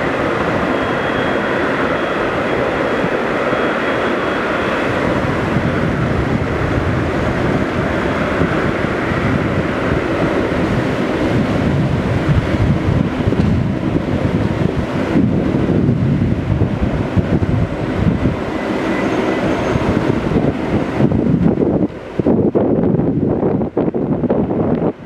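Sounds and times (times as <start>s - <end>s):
jet engines rumbling: 0.0s - 25.0s
wind buffeting microphone: 0.0s - 25.0s.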